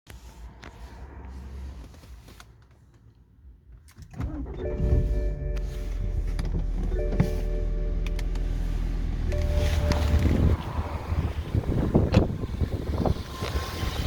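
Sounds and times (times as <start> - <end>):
car engine starting and idling: 0.1 - 14.0.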